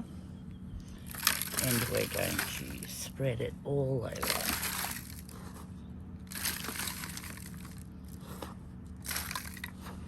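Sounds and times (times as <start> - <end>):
faint steady hum: 0.0 - 10.0
soil rustling and crumbling: 1.0 - 10.0.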